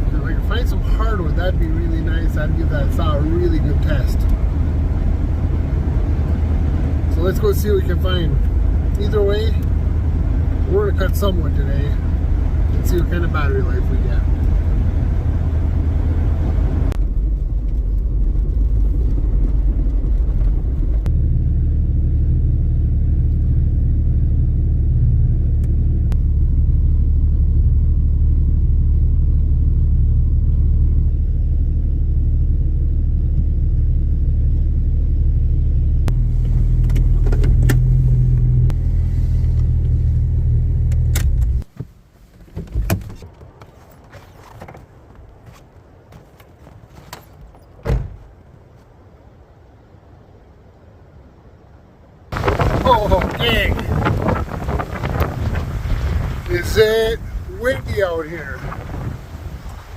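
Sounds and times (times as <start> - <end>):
vehicle rumble from inside cab: 0.0 - 49.7, 52.3 - 59.9.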